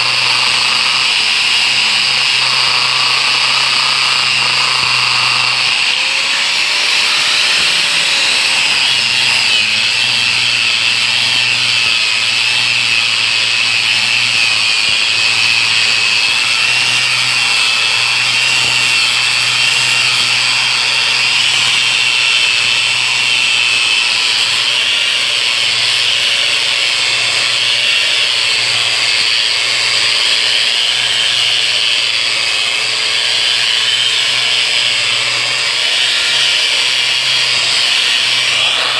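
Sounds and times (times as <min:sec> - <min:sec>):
angle grinder whining: 0:00.0 - 0:38.9.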